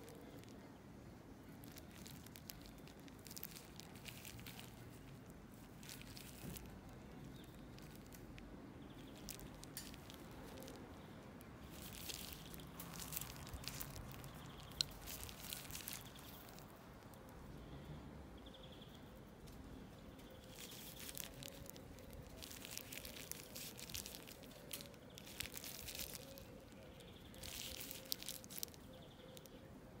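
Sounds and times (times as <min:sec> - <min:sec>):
nitrile glove crinkling: 0:00.0 - 0:17.7, 0:19.4 - 0:29.6.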